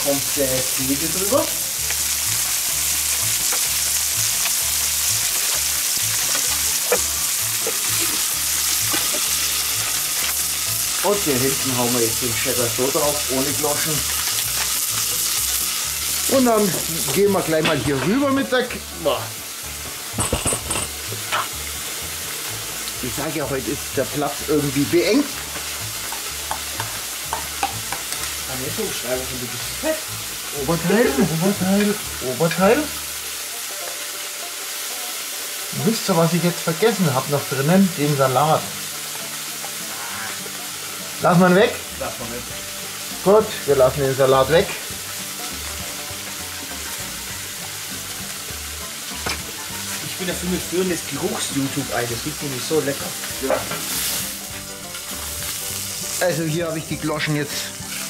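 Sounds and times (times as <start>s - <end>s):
burger patties sizzling on griddle: 0.0s - 58.0s.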